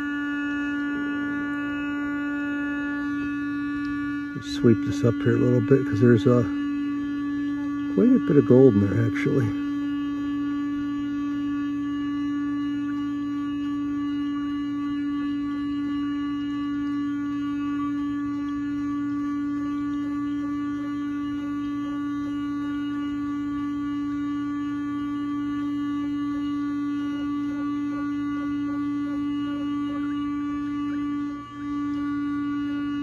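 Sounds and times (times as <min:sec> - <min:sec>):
vibrator motor humming: 0:00.0 - 0:33.0.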